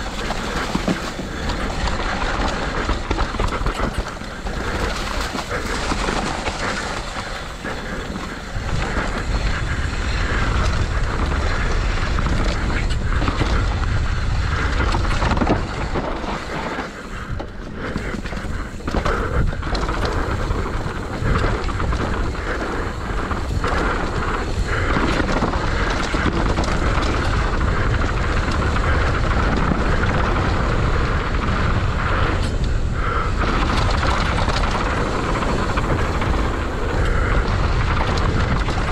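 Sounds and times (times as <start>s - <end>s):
bike knocking and rattling: 0.0s - 38.9s
tyres rolling on dirt: 0.0s - 38.9s
wind on microphone: 0.0s - 38.9s.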